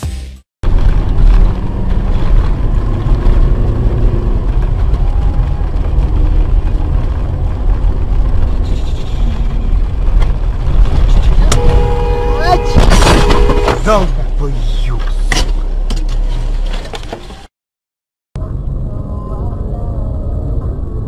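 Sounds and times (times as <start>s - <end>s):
car road and engine rumble: 0.6s - 17.5s, 18.4s - 21.0s.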